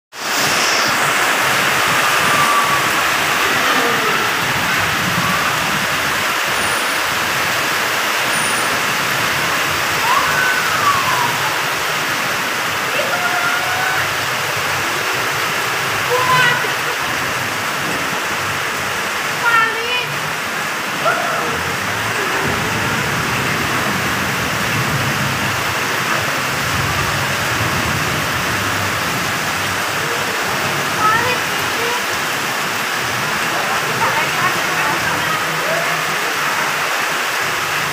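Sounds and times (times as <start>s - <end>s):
floodwater rushing over road: 0.1s - 37.9s
heavy rain pouring: 0.1s - 37.9s
vehicles driving through water: 0.2s - 37.9s.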